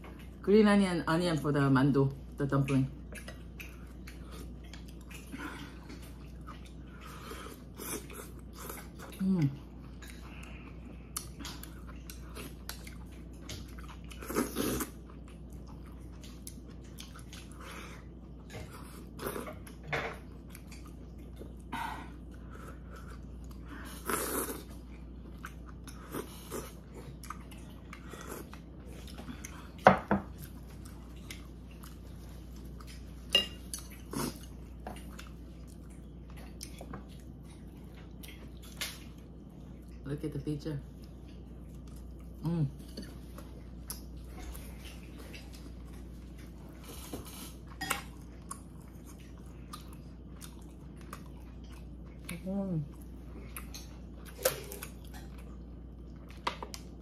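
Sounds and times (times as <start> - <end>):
person chewing: 3.0 - 40.0, 41.0 - 57.0.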